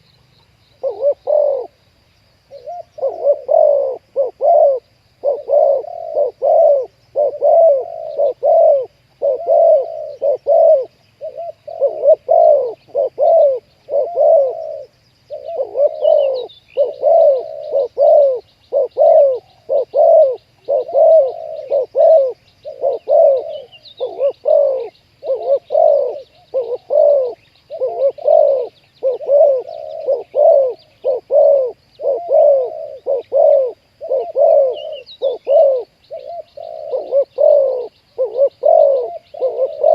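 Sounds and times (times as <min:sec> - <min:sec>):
small birds chirping: 0:00.0 - 0:39.9
doves cooing: 0:00.7 - 0:01.8, 0:02.5 - 0:39.9.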